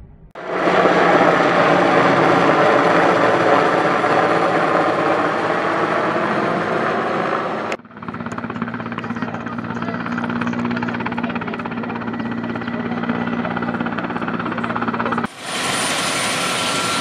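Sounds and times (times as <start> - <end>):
helicopter flying overhead: 0.4 - 17.0.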